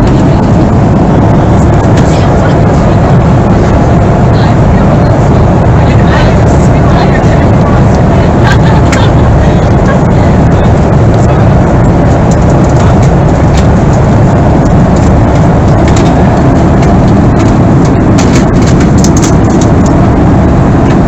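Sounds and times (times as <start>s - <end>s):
airliner cabin roar: 0.0s - 21.0s.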